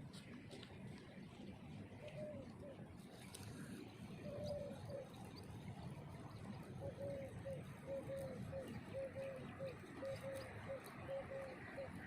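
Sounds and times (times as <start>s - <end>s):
dove cooing: 2.0s - 12.0s.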